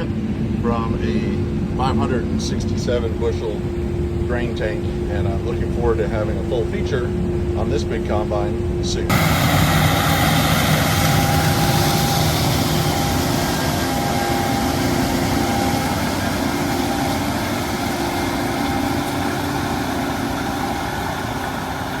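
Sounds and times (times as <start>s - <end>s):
combine harvester drone: 0.0s - 22.0s
steady hum tones: 0.0s - 22.0s.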